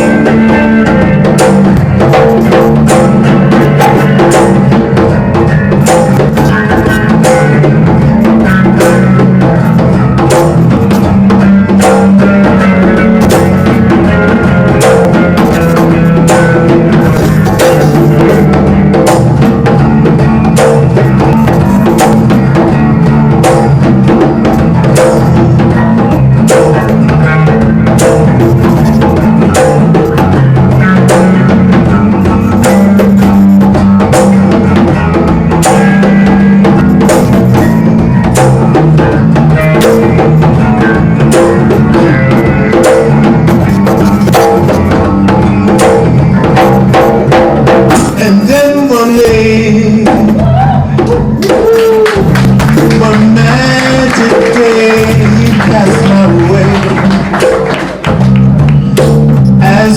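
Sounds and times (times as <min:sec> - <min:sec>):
electric bass line: 0:00.0 - 0:59.9
hand percussion: 0:00.0 - 0:59.9.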